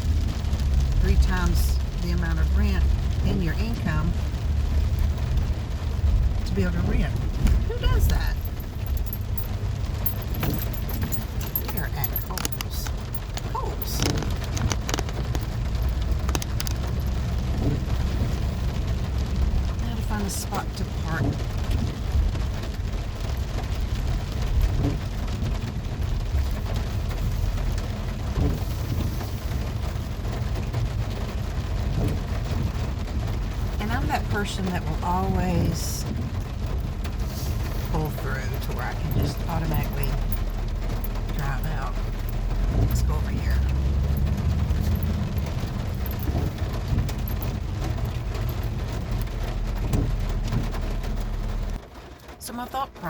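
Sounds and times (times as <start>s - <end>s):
rain on a van: 0.0s - 53.0s
van engine rumbling: 0.0s - 53.0s.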